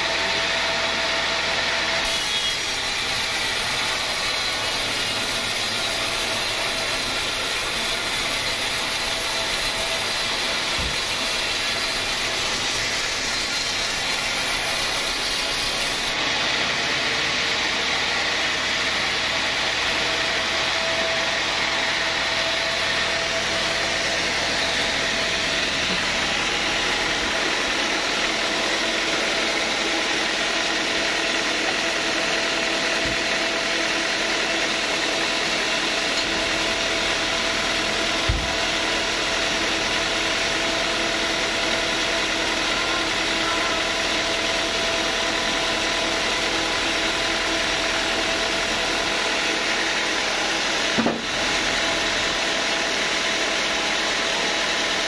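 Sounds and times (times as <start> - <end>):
band saw cutting log: 0.0 - 55.0
sawmill machine drone: 0.0 - 55.0.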